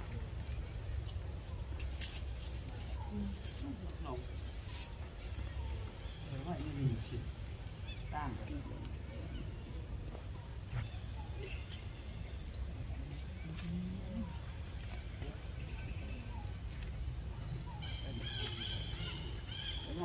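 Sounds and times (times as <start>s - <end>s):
faint chirps: 0.0s - 20.0s.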